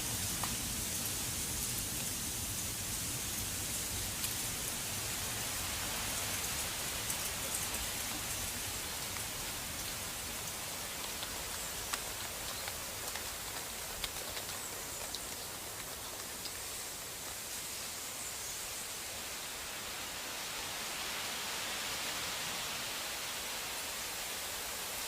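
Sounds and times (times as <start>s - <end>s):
light ticks of precipitation: 0.0s - 25.0s
snowstorm hiss: 0.0s - 25.0s.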